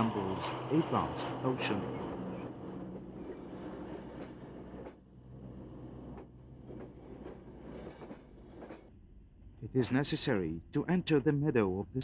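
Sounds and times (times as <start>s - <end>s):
train rumbling on rails: 0.0s - 11.8s.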